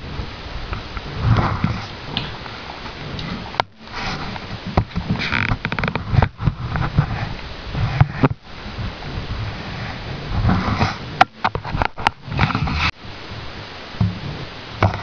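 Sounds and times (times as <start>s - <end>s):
rubbing and rustling of plastic: 0.0s - 15.0s.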